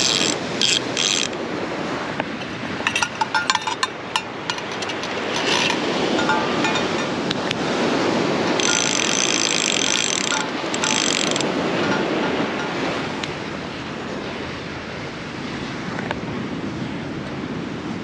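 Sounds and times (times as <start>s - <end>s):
ocean surf washing on shore: 0.0s - 18.0s
wind buffeting microphone: 0.0s - 18.0s.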